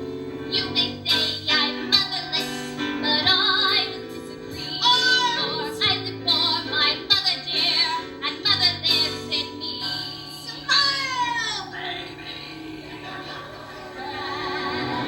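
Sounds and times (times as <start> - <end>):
woman singing: 0.5 - 15.0.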